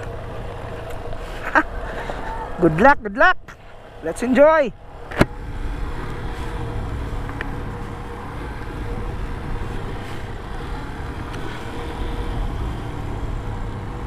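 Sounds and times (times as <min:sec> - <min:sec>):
motorcycle engine running: 0:00.0 - 0:02.8, 0:03.4 - 0:14.0
tyres rumbling on gravel: 0:00.0 - 0:14.0.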